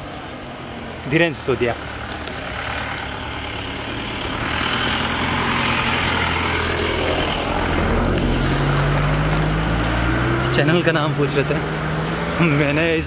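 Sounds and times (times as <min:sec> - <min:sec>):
road noise: 0:00.0 - 0:13.0
vehicle engine running: 0:00.9 - 0:13.0.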